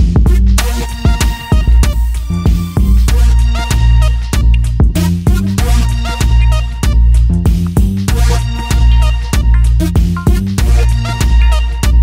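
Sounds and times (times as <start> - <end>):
music with heavy bass: 0.0 - 12.0
steady drum beat: 0.0 - 12.0.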